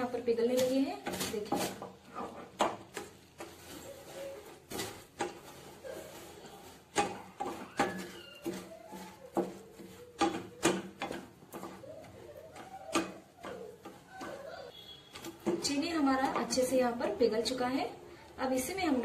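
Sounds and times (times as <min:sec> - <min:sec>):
spatula scraping frying pan: 0:00.6 - 0:16.8.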